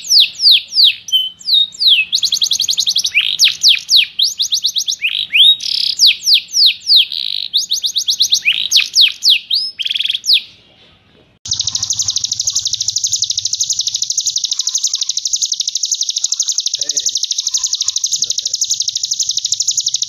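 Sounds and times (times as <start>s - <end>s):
songbird whistled notes: 0.0s - 10.6s, 11.5s - 20.0s
songbird continuous trill: 0.0s - 20.0s.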